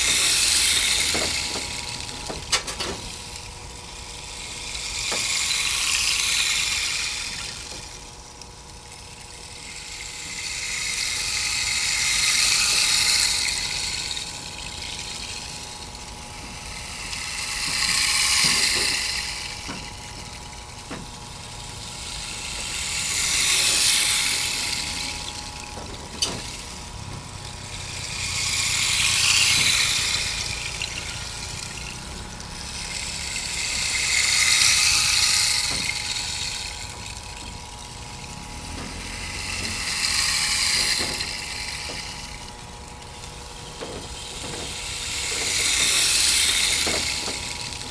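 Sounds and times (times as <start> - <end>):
pulsing hiss: 0.0 - 47.9.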